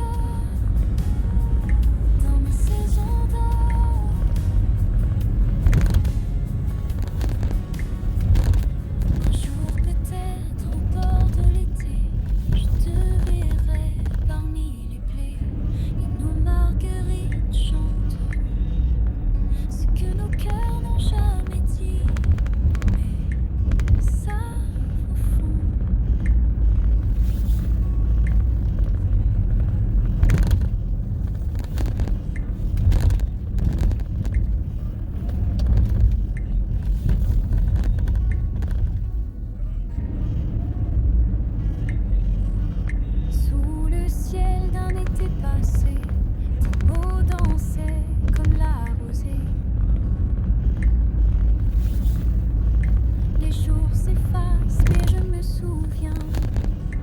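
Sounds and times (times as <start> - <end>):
faint background music: 0.0 - 57.0
low road rumble: 0.0 - 57.0.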